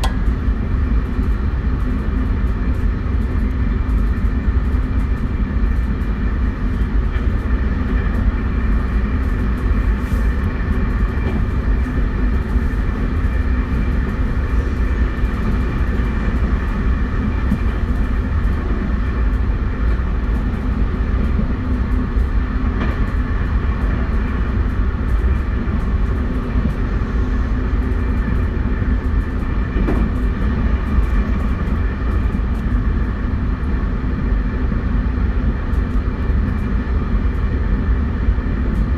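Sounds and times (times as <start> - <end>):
wheels rumbling on rail: 0.0 - 38.9.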